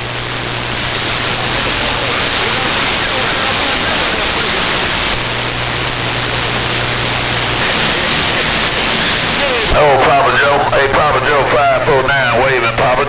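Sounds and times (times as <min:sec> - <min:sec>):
low hum: 0:00.0 - 0:12.2
radio static hiss: 0:00.0 - 0:13.0.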